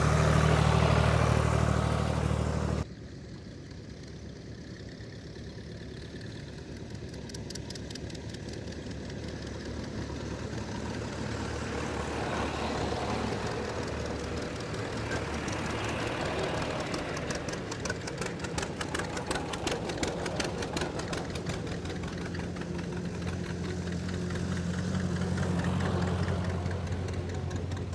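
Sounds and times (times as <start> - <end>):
tractor engine running: 0.0 - 2.8, 4.1 - 27.9.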